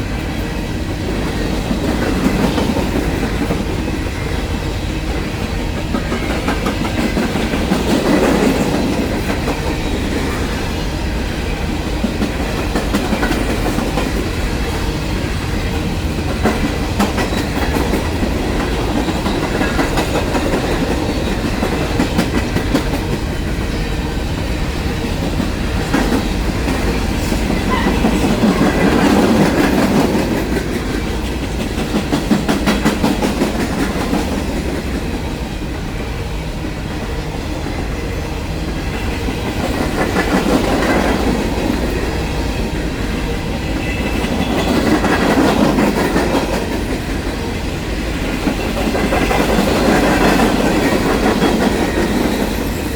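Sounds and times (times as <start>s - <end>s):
clickety-clack over rail joints: 0.0s - 52.9s
freight train wheels rumbling: 0.0s - 52.9s.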